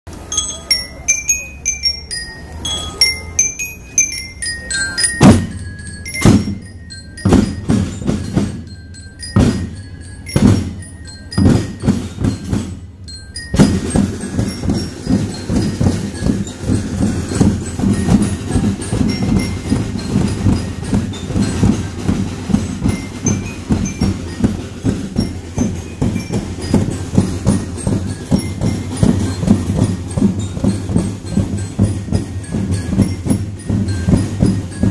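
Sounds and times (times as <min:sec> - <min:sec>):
bell lyre melody: 0:00.1 - 0:34.9
drum line fast beat: 0:03.4 - 0:34.9
drum unison hits: 0:05.0 - 0:12.8, 0:13.4 - 0:34.9.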